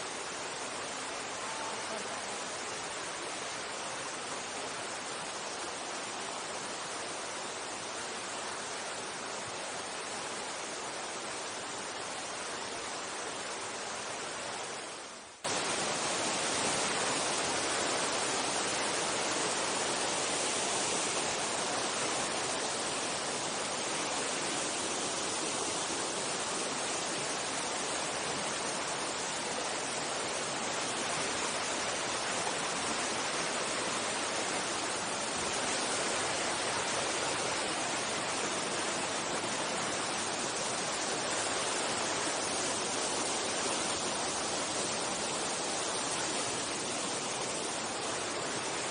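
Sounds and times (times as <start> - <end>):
mountain stream flowing water: 0.0 - 48.9.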